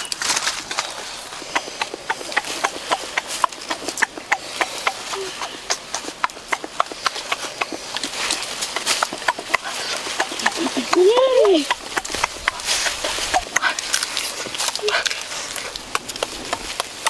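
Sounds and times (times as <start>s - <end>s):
crunching chewing clicks: 0.0s - 17.0s.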